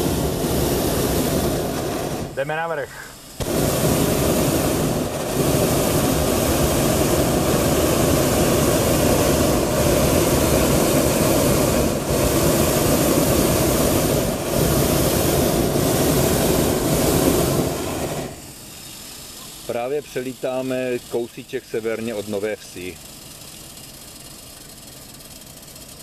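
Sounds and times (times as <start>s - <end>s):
propane burner firing: 0.0s - 26.0s.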